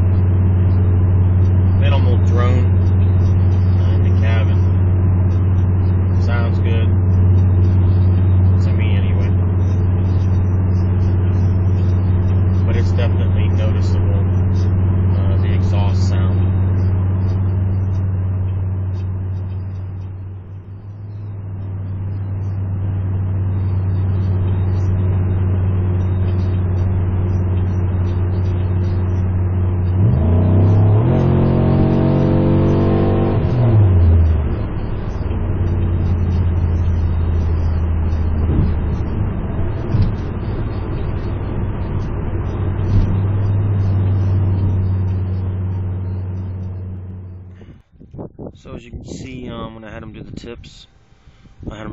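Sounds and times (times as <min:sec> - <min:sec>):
car engine cruising drone: 0:00.0 - 0:51.9.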